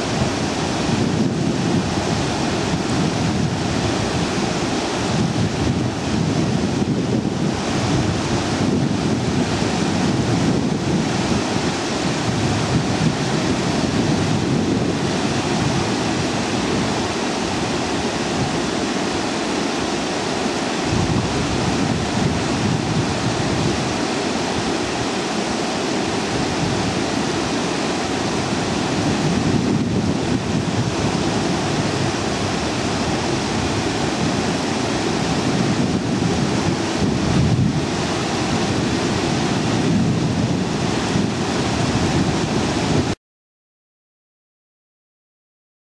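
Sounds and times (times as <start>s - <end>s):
water rushing in tanks: 0.0s - 43.2s
wind buffeting microphone: 0.0s - 43.2s.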